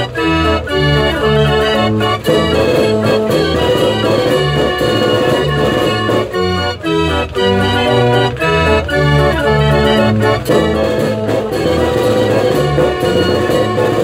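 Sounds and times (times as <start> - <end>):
street organ playing a tune: 0.0 - 14.0.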